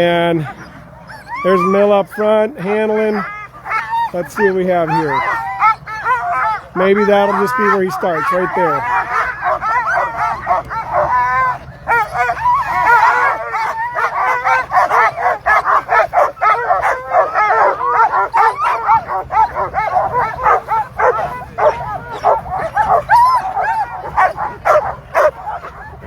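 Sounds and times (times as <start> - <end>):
dogs barking yipping and howling: 0.0 - 26.0.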